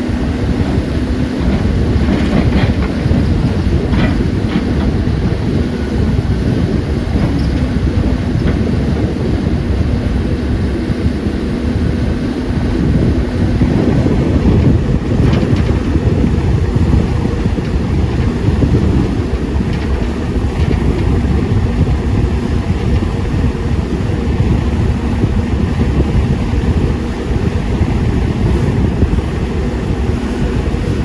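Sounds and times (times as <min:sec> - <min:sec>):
excavator diesel engine humming: 0:00.0 - 0:31.0.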